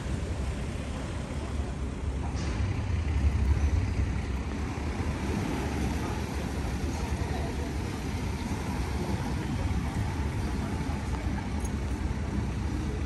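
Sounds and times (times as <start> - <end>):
boat engines rumbling: 0.0 - 13.0
propellers churning water: 0.0 - 13.0.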